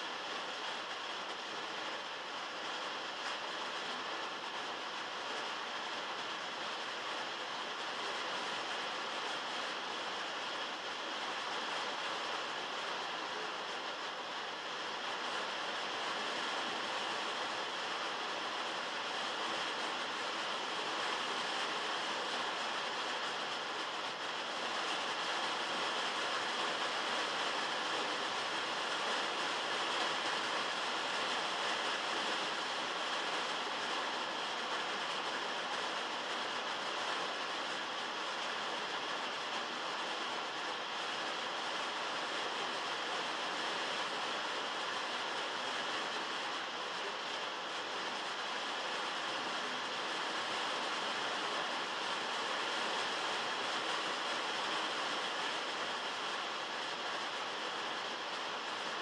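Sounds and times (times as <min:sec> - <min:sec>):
heavy rain on metal: 0:00.0 - 0:59.0.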